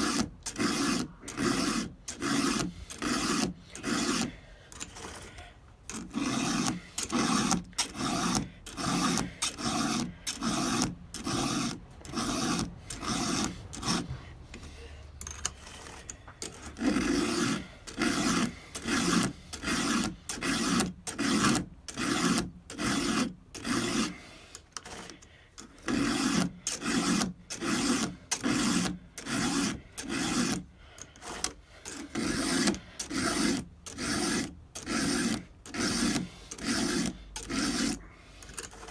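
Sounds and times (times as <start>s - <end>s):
file rasping on saw chain: 0.0s - 38.9s.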